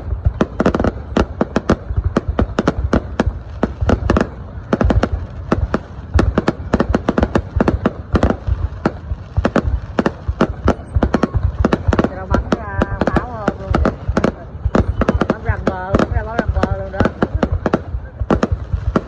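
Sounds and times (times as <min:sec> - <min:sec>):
fireworks cracking: 0:00.0 - 0:19.0
low rumble of booms: 0:00.0 - 0:19.0.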